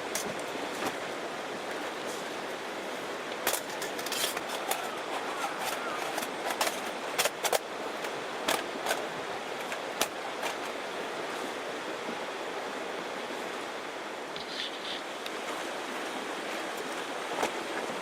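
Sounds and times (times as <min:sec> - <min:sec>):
surf washing: 0:00.0 - 0:18.0.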